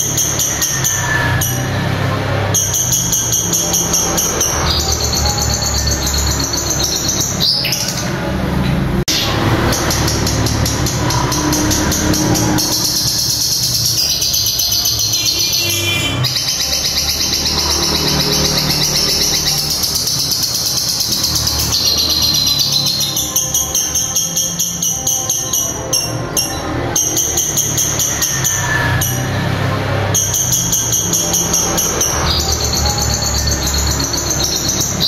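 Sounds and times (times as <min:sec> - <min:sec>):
bird singing high chattering trill: 0:00.0 - 0:08.4, 0:09.0 - 0:35.0.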